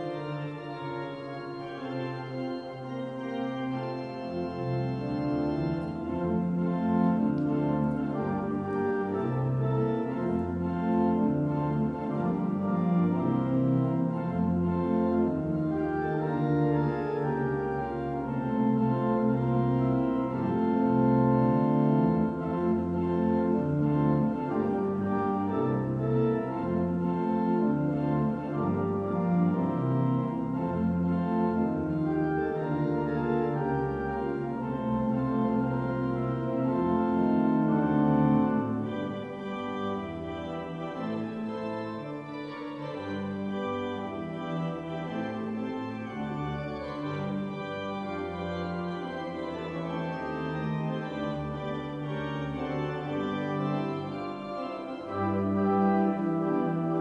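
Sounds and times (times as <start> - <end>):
pipe organ playing chords: 0.0 - 57.0.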